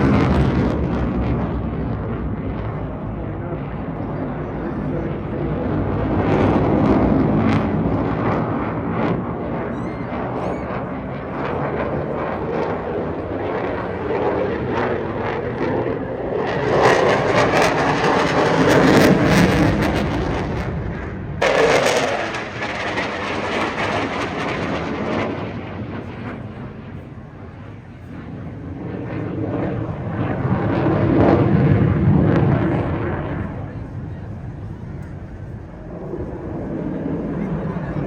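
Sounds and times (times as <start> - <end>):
jet fighter engines roaring: 0.0 - 38.0.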